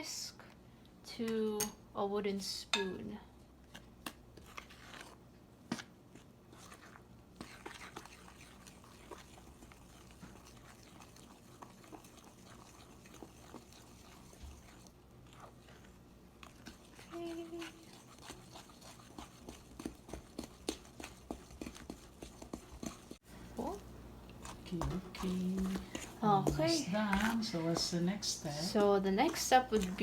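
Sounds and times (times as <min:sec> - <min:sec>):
wooden spoon stirring batter: 0:03.6 - 0:30.0.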